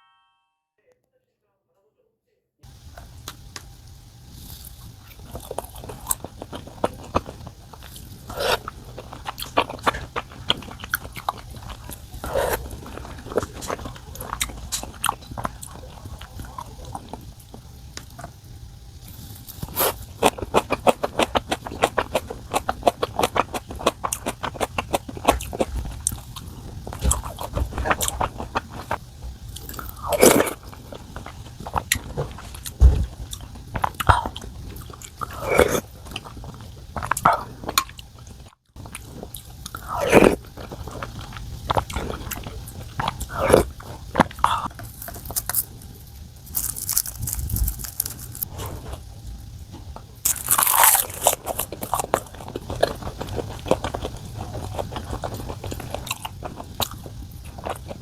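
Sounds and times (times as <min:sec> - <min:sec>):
person chewing crisp food: 0:04.3 - 0:58.0.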